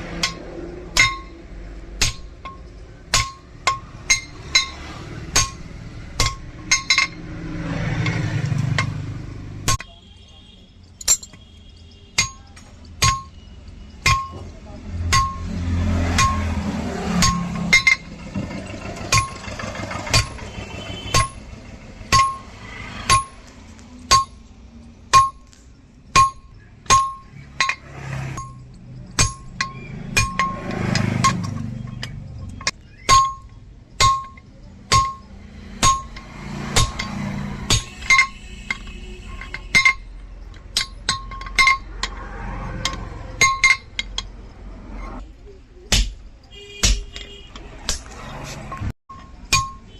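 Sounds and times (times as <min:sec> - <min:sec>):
hammer striking steel on anvil: 0:00.0 - 0:01.4, 0:02.0 - 0:09.0, 0:12.2 - 0:13.4, 0:14.0 - 0:21.5, 0:22.1 - 0:23.5, 0:24.1 - 0:24.5, 0:25.1 - 0:44.3, 0:45.9 - 0:46.2, 0:46.8 - 0:49.9.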